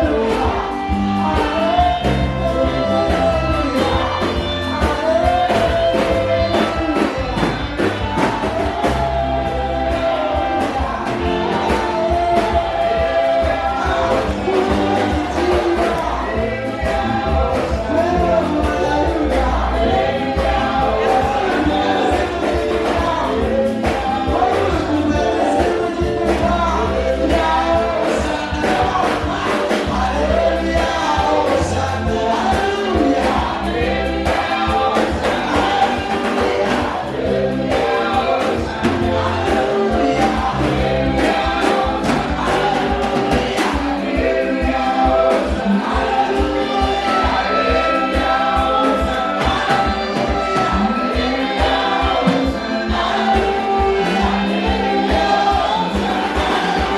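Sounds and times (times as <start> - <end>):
choir singing gospel music: 0.0 - 56.9
steady beat: 0.0 - 56.9.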